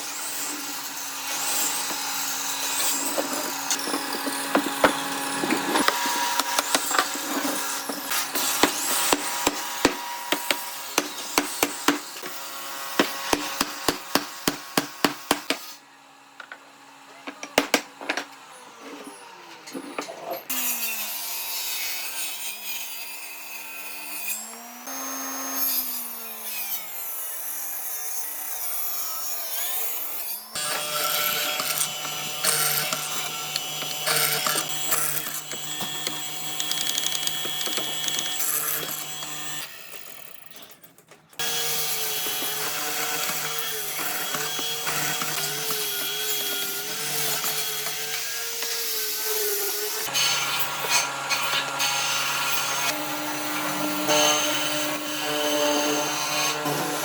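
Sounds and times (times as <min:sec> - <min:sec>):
power tools cutting and sanding wood: 0:00.0 - 0:40.8, 0:41.4 - 0:57.0.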